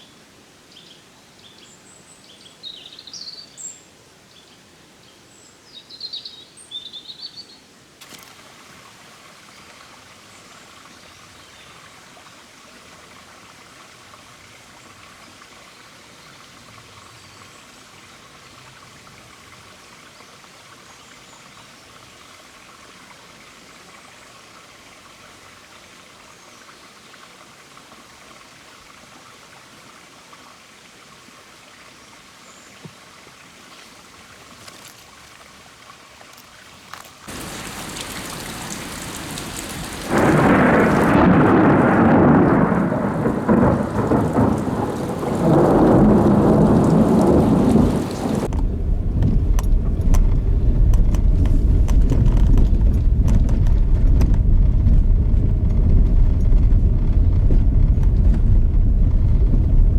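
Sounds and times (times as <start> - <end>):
rushing running water: 7.9 - 59.9.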